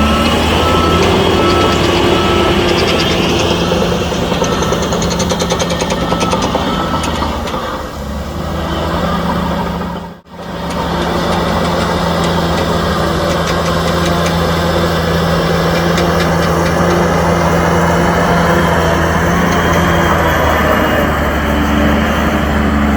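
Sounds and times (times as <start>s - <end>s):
heavy diesel engine running: 0.0s - 22.9s.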